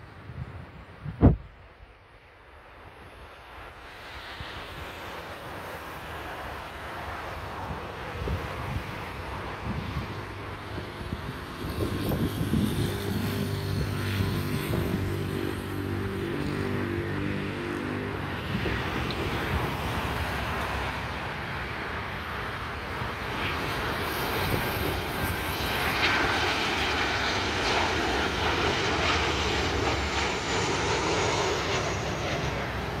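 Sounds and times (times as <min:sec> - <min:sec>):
jet engine rumble: 0:00.0 - 0:33.0.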